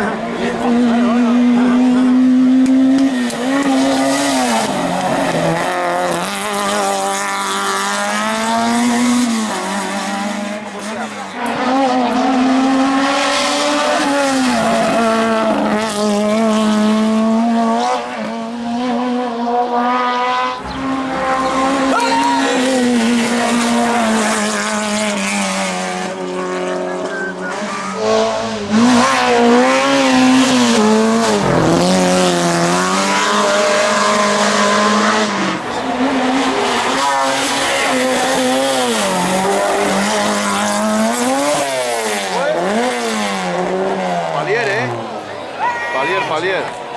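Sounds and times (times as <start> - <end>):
car engine revving hard: 0.0 - 45.6.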